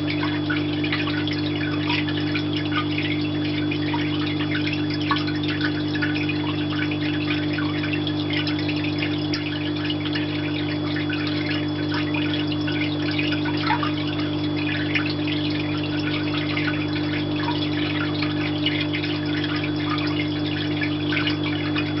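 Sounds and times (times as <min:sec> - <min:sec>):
water pump humming: 0:00.0 - 0:22.0.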